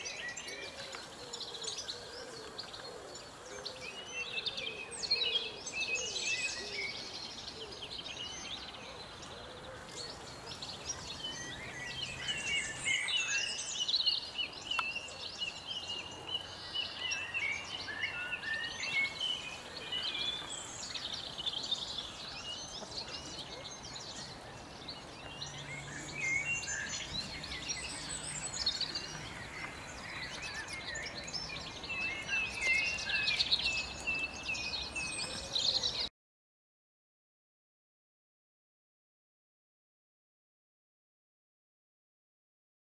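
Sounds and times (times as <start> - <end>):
songbirds twittering: 0.0 - 36.1.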